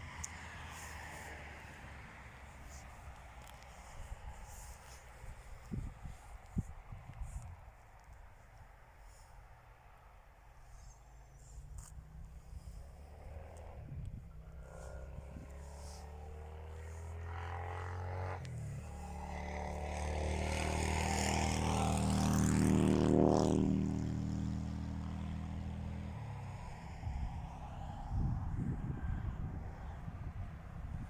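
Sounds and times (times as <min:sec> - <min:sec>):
vehicle passing by: 0:00.0 - 0:08.1, 0:09.0 - 0:31.0.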